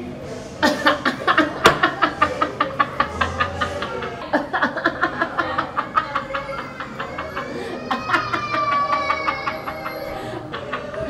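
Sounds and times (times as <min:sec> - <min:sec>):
woman laughing hard: 0:00.6 - 0:11.0.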